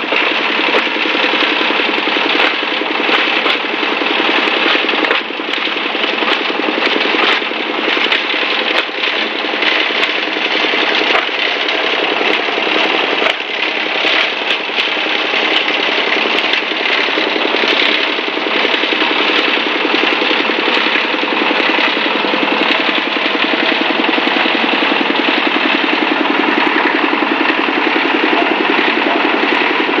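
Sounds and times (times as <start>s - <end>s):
sharp cracks and knocks: 0.0s - 27.6s
plastic bottle shredder running: 0.0s - 30.0s.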